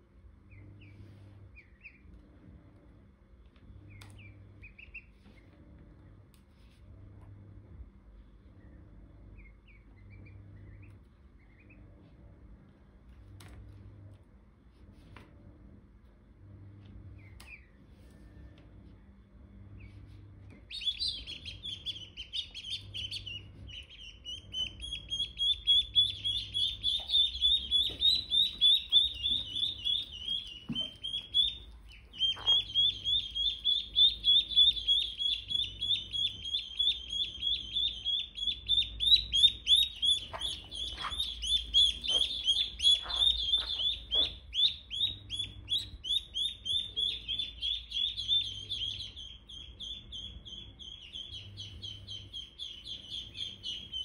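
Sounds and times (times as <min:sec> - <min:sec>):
ducklings peeping: 0:00.4 - 0:02.4, 0:03.8 - 0:05.6, 0:08.4 - 0:12.4, 0:16.8 - 0:18.6, 0:19.6 - 0:54.0.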